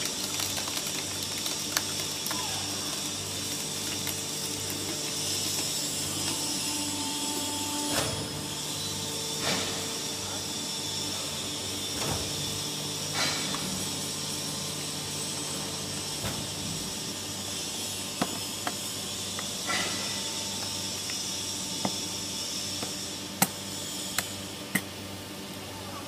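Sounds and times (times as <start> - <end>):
can baler hydraulic hum with hiss: 2.1 - 26.0.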